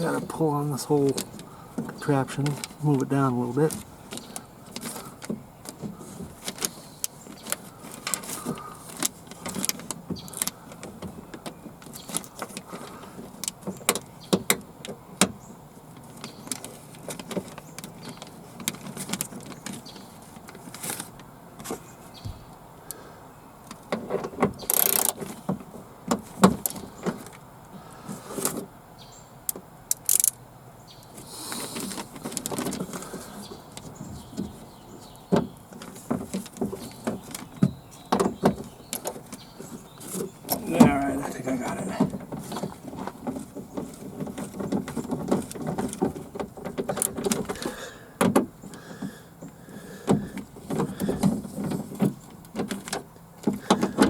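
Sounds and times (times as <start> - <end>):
clicks and knocks inside car door: 0.0 - 22.6, 23.7 - 27.5, 31.6 - 54.0.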